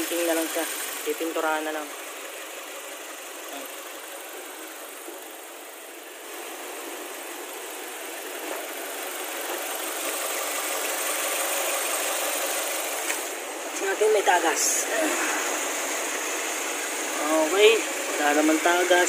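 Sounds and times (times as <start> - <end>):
car engine idling: 0.0 - 19.0
radiator fan running: 0.0 - 19.0.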